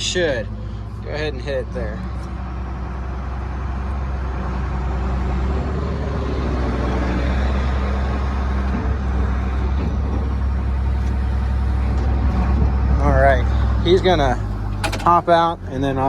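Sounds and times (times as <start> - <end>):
excavator diesel engine running: 0.0 - 16.0
hydraulics working: 0.0 - 16.0.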